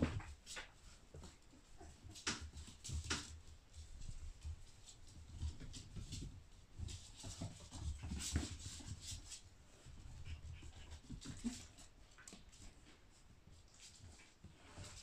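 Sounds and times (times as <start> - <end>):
puppy paws on wooden floor: 0.0 - 15.0.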